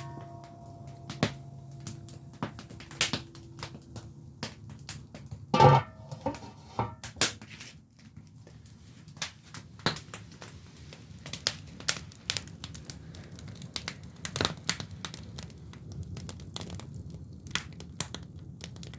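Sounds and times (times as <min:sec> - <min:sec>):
firewood crackling and popping: 0:00.0 - 0:18.9
low sound of fire: 0:00.0 - 0:18.9.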